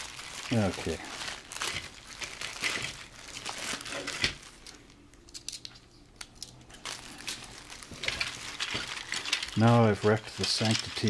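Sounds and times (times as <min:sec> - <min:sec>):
plastic bag crinkling: 0:00.0 - 0:05.5, 0:06.7 - 0:11.0.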